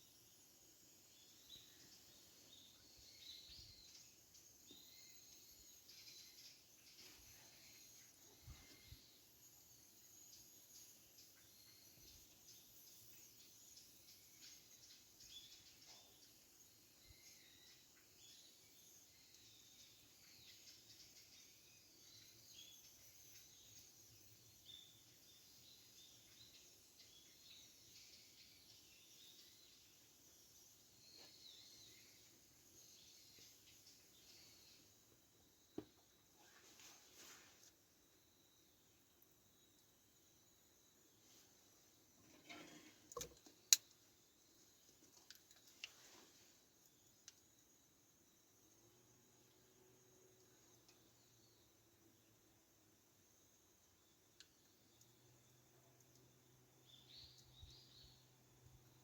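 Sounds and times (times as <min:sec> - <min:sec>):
insect and bird chirps: 0:00.0 - 0:59.0.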